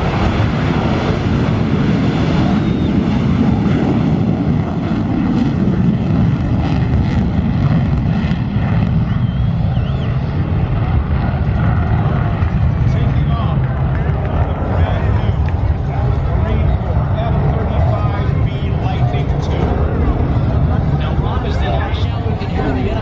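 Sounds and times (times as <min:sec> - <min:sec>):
aircraft engine rumble: 0:00.0 - 0:23.0.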